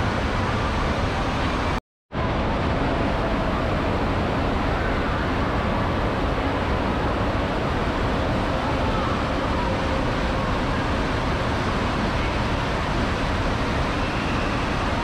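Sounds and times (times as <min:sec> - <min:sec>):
roar of rushing water: 0:00.0 - 0:15.0.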